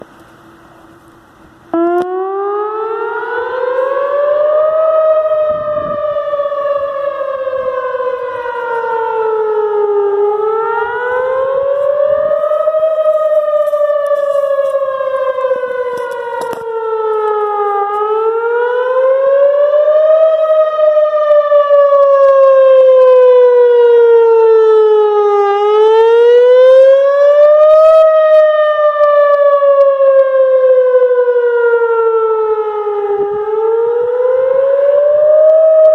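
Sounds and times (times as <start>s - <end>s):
outdoor warning siren wailing: 0.0s - 35.9s.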